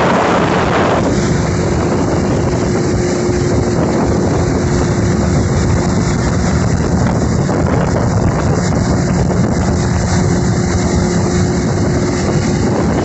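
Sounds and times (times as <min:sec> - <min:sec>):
boat engine: 0:00.0 - 0:13.0
passing water: 0:00.0 - 0:13.0
wind on microphone: 0:00.0 - 0:13.0.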